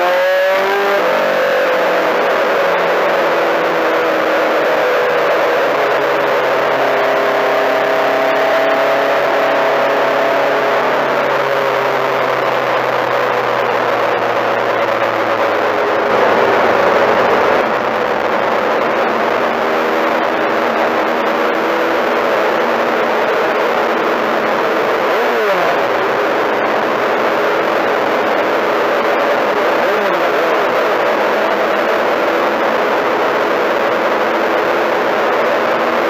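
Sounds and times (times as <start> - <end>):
race car engine running hard: 0.0 - 36.0.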